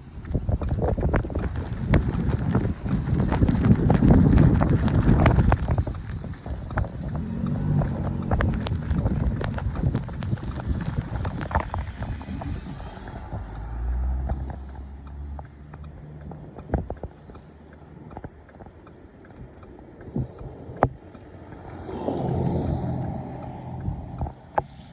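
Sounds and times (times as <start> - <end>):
car engine and tyres rumbling: 0.0 - 24.9.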